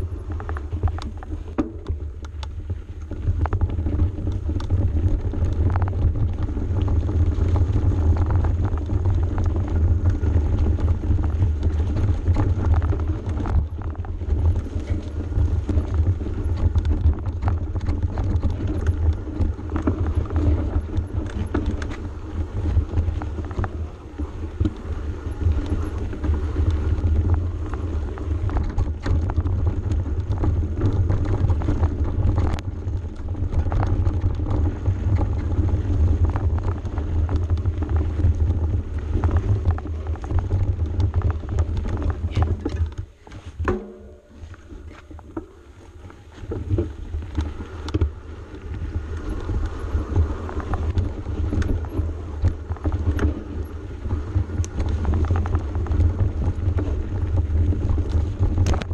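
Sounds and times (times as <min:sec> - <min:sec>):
bike knocks and rattles: 0:00.0 - 0:58.9
wind and trail rumble: 0:00.0 - 0:58.9.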